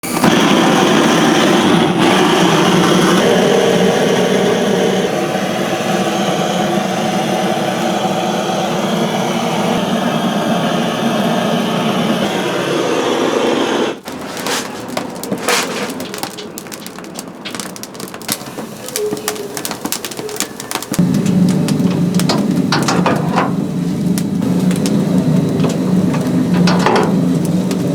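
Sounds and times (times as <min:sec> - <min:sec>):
loud mechanical hum: 0:00.0 - 0:27.9
wood fire crackling and popping: 0:00.0 - 0:27.9.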